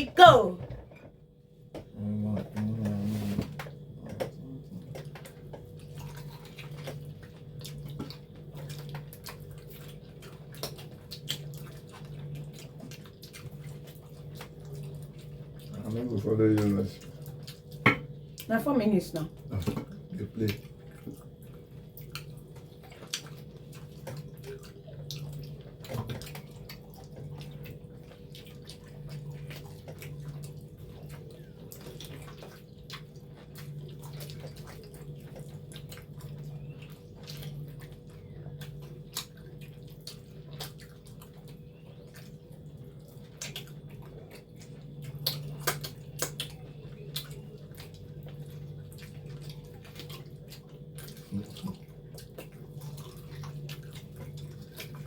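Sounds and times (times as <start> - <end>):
steady low hum: 0.0 - 55.0
wet chewing and lip-smacking: 3.5 - 55.0.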